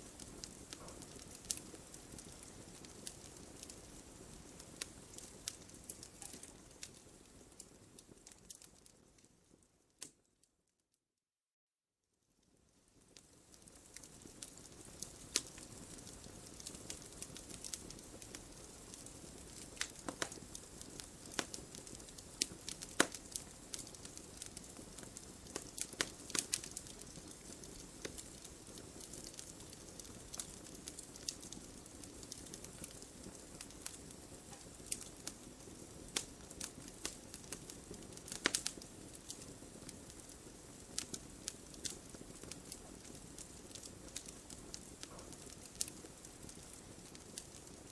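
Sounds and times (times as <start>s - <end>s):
wood fire crackling: 0.0s - 10.4s, 12.3s - 47.9s.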